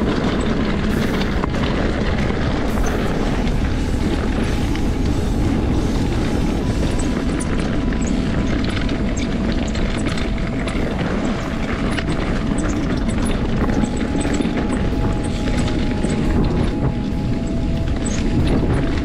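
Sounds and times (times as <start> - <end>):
bike rattling over stones: 0.0 - 19.0
wind rumble on microphone: 0.0 - 19.0.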